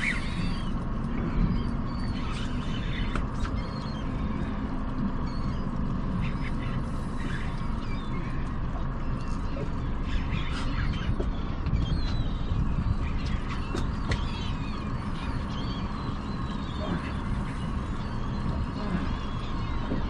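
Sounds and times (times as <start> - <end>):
birds chirping: 0.0 - 20.0
boat motor running: 0.0 - 20.0.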